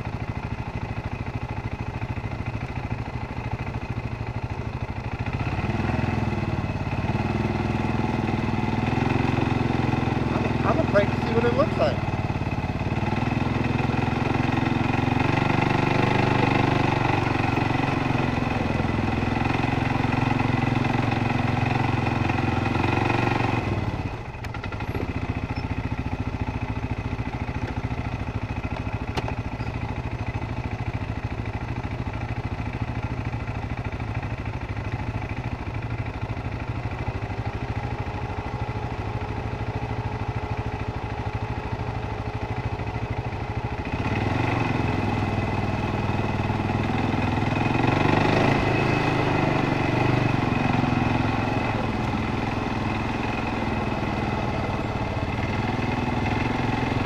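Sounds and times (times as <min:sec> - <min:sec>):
atv engine running at low revs: 0:00.0 - 0:57.0.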